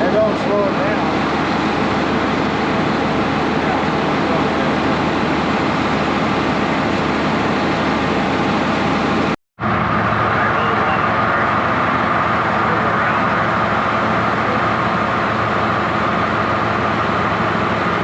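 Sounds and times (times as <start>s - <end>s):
high whine: 0.0s - 18.0s
tractor diesel engine running: 0.0s - 18.0s.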